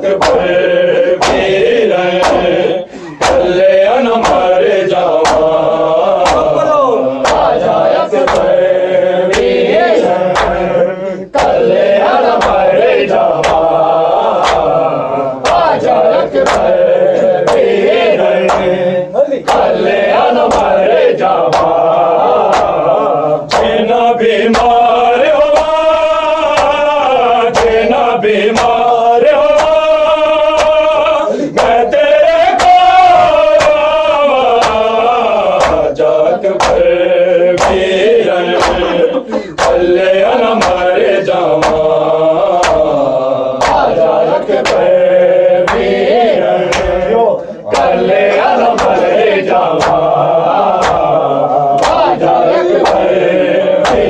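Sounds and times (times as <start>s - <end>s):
men chanting a lament: 0.0s - 54.0s
rhythmic chest slaps: 0.0s - 54.0s.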